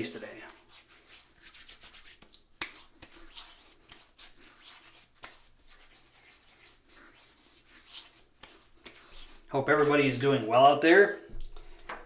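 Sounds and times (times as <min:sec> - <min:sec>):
hands rubbing cream into stubble: 0:00.0 - 0:10.5.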